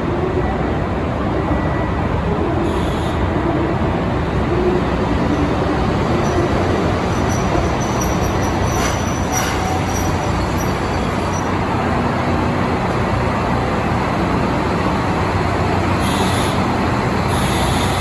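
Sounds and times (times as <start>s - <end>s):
diesel train engines rumbling: 0.0s - 18.0s.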